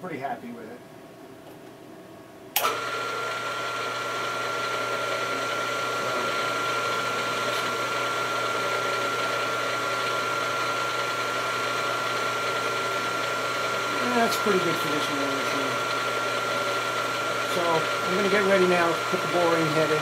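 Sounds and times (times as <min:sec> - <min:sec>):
spindle motor high whine: 0:02.6 - 0:20.0.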